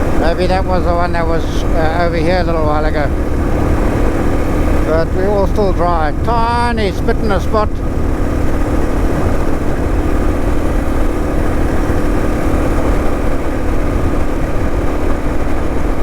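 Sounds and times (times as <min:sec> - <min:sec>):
road and wind noise: 0:00.0 - 0:16.0
vehicle engine droning: 0:00.0 - 0:16.0.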